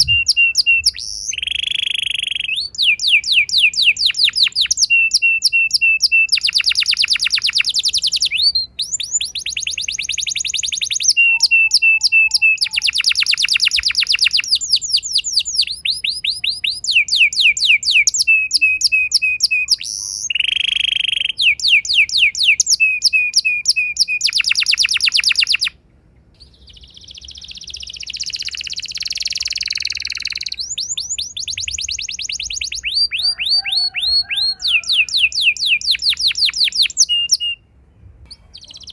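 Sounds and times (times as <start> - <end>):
canary singing trills: 0.0 - 25.8, 26.4 - 37.7, 38.3 - 38.9.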